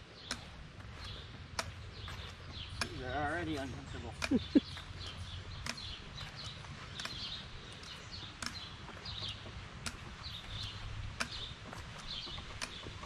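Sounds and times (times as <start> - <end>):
birds chirping: 0.0 - 13.0
crutches tapping on paved path: 0.0 - 13.0.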